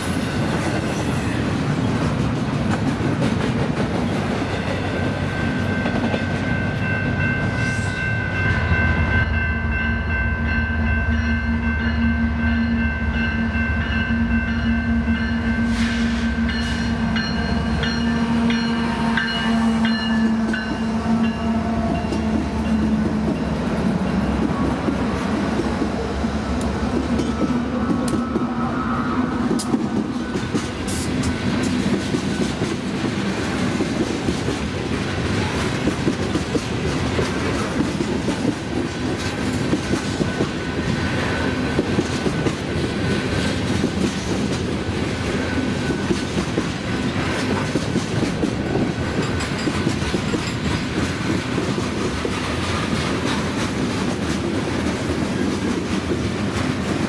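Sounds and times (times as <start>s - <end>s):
diesel locomotive passing: 0.0s - 57.0s
train wheels rumbling on rails: 0.0s - 57.0s.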